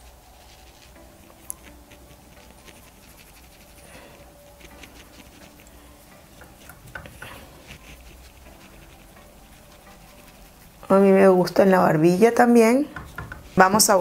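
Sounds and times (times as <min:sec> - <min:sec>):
makeup blending scratching: 0:00.0 - 0:14.0.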